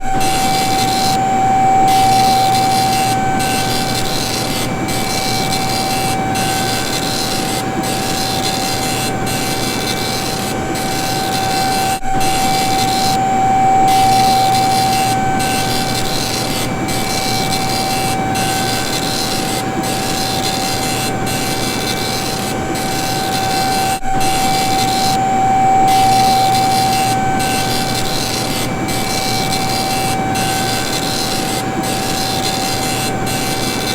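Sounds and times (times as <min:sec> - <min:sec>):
machine whine: 0:00.0 - 0:33.9
dot matrix printer hiss: 0:00.2 - 0:33.9.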